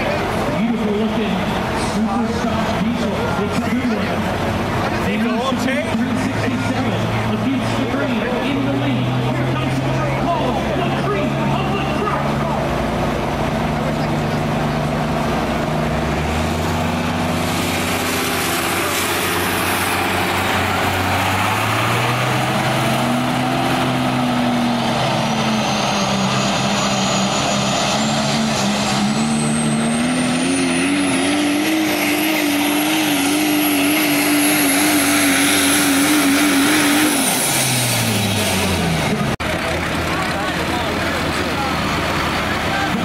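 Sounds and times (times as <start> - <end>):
diesel truck engine under load: 0.0 - 43.0.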